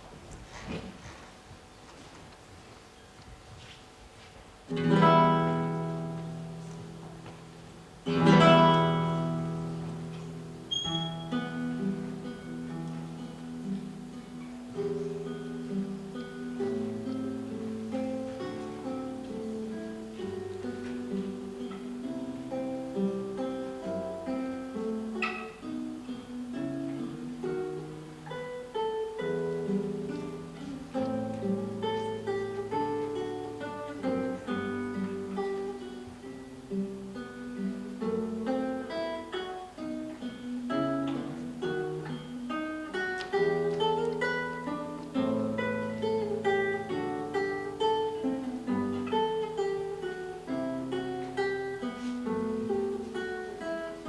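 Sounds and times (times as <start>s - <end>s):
fingerstyle classical guitar: 0.0s - 54.0s.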